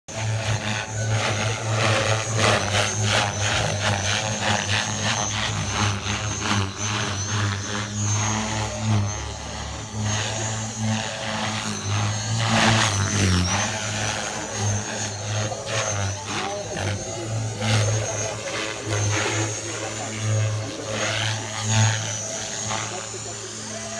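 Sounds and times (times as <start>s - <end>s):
helicopter rotor low buzz: 0.0s - 23.9s
high motor whine: 0.0s - 23.9s.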